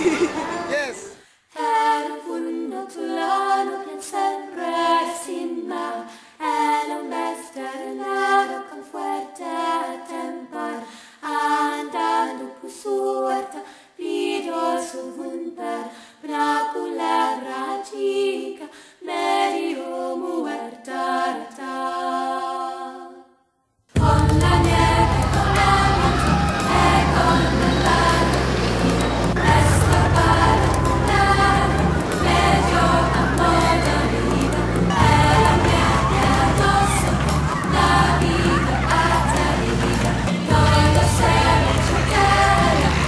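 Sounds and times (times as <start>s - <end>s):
voices singing a cappella: 0.0s - 43.0s.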